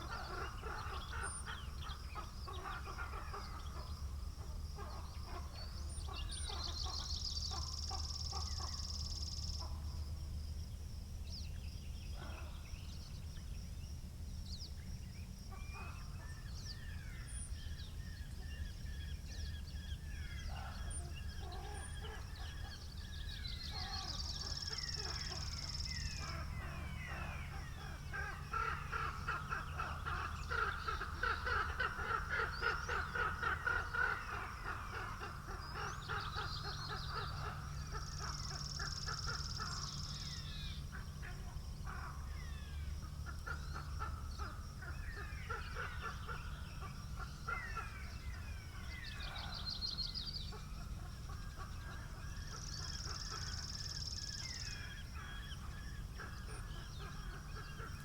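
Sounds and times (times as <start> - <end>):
birds singing and chirping: 0.0 - 9.9, 11.2 - 58.0
low rumble of wind: 0.0 - 58.0.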